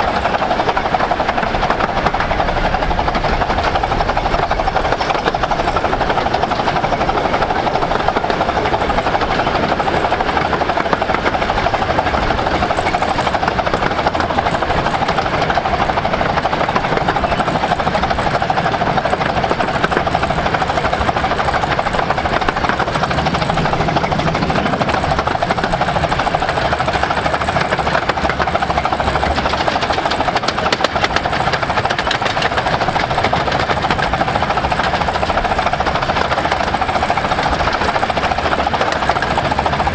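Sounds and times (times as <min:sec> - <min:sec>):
miniature steam train running: 0:00.0 - 0:39.9.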